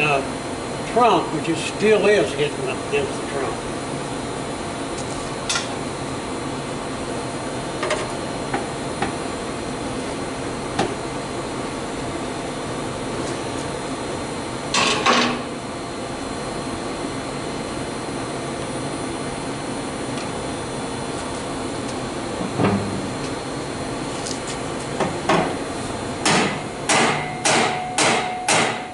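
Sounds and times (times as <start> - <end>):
steady background hum: 0.0 - 28.9.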